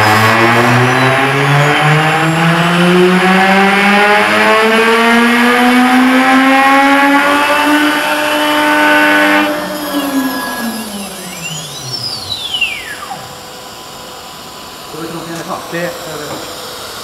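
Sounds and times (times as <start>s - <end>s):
router spindle motor whining: 0.0s - 17.0s.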